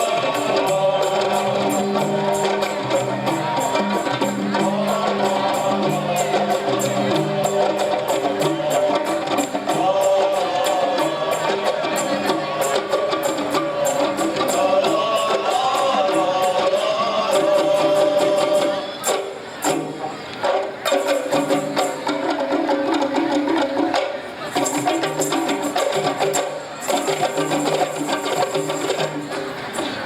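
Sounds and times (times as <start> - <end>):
frame drums and tambourine: 0.0 - 30.0.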